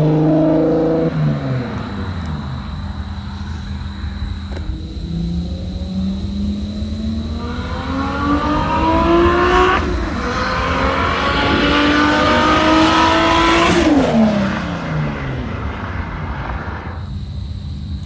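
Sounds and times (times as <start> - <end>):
car engine accelerating: 0.0 - 17.5.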